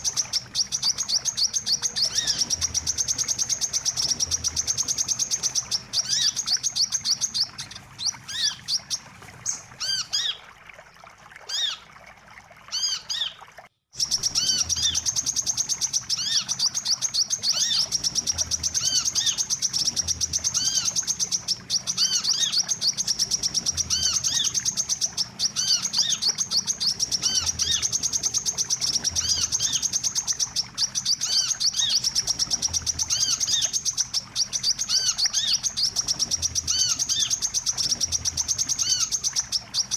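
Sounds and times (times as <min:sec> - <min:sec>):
bird trilling chatter: 0:00.0 - 0:10.4, 0:14.0 - 0:39.9.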